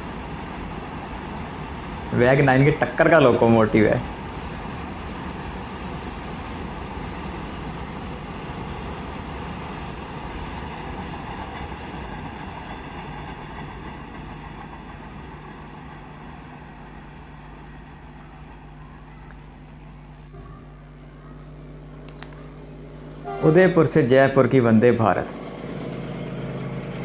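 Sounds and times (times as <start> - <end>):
train wheels rumbling on rail: 0.0 - 20.1, 25.2 - 27.0.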